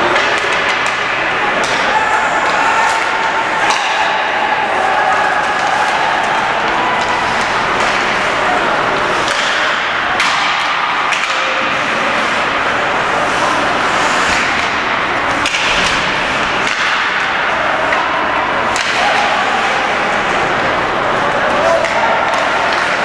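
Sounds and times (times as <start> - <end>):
arena rink noise: 0.0 - 23.0
hockey sticks clacking on puck: 0.0 - 23.0.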